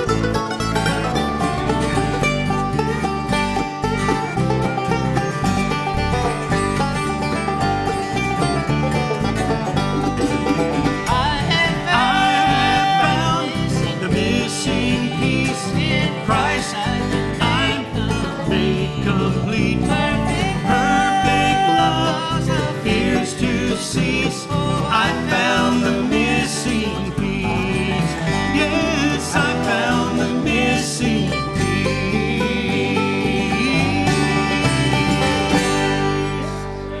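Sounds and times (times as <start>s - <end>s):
banjo picking: 0.0s - 37.0s
bluegrass band playing: 0.0s - 37.0s
guitar picking: 0.0s - 37.0s.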